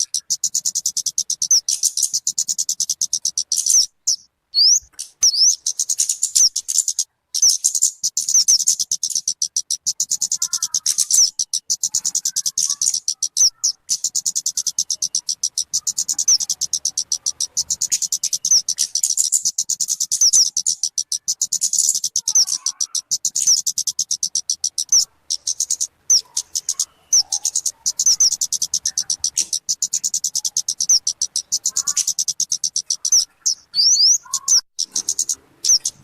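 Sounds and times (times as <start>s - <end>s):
bird chirping rapidly: 0.0s - 36.0s.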